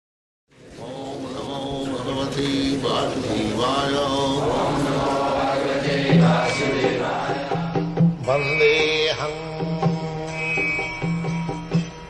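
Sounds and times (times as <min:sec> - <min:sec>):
person singing a chant: 0:00.7 - 0:11.2.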